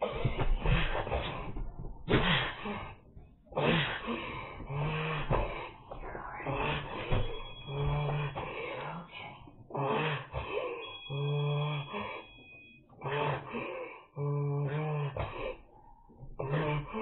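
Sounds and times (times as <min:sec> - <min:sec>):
man groaning with laboured breaths: 0:00.0 - 0:12.4, 0:13.0 - 0:17.0.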